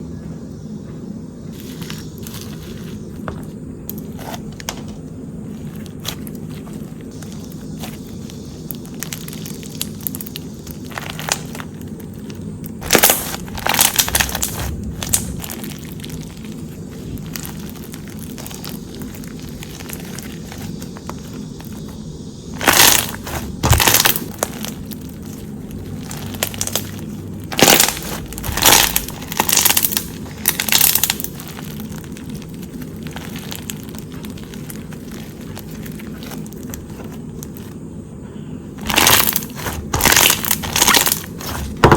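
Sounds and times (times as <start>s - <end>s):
steady low hum: 0.0s - 41.9s
slime crackling and popping: 3.9s - 37.8s, 38.8s - 41.9s.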